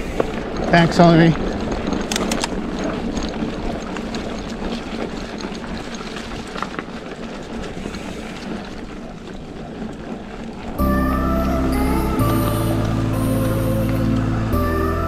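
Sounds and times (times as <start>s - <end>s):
bike clicks and rattles: 0.0s - 14.8s
bike tyres rolling on dirt: 0.0s - 15.0s.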